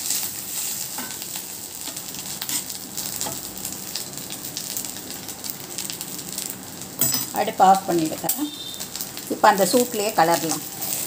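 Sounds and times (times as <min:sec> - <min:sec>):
rice sizzling in pan: 0:00.0 - 0:11.0.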